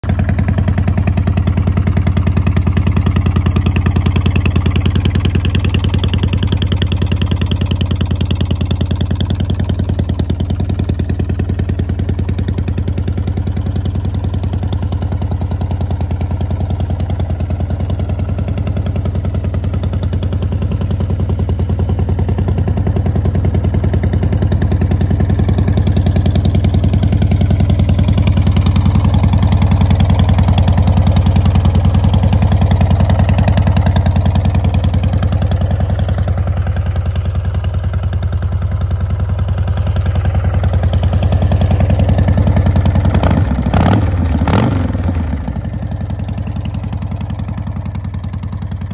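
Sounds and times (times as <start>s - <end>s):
motorcycle engine idling: 0.0s - 48.9s.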